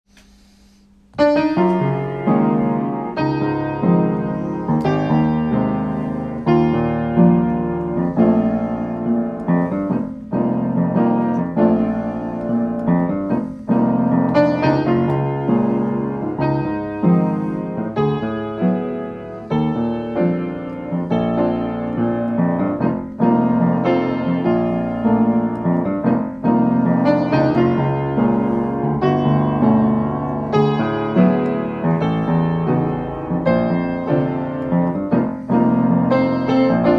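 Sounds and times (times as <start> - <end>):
piano music: 1.0 - 36.9.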